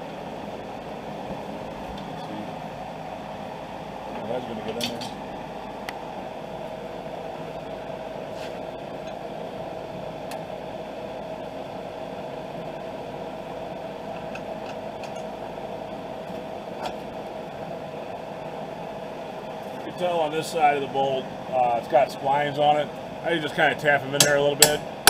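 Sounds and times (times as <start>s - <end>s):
machine hum with whine: 0.0s - 25.0s.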